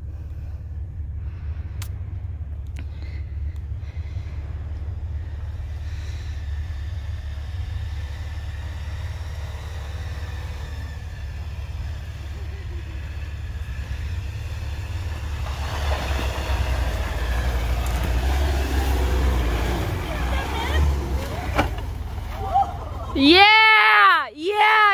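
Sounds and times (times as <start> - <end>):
car engine rumbling: 0.0 - 24.9.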